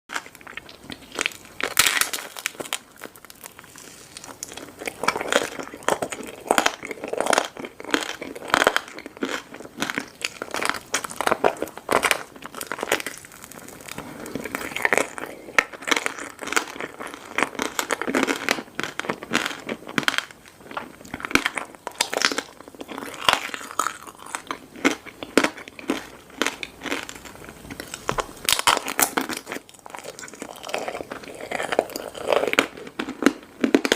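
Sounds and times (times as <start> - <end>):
candy crunching: 0.1 - 33.9.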